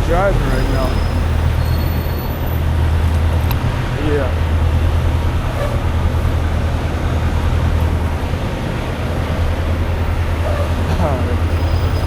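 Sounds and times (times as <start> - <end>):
diesel engine droning: 0.0 - 12.0
road noise: 0.0 - 12.0.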